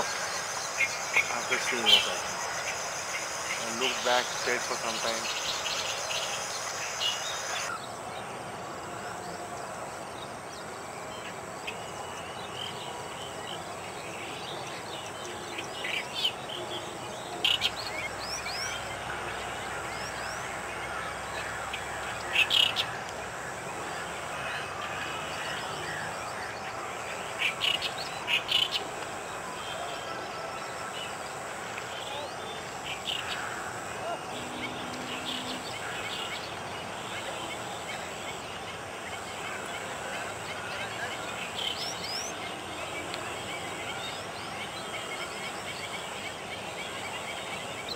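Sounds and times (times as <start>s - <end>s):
high insect chorus: 0.0s - 47.9s
steady background hiss: 0.0s - 47.9s.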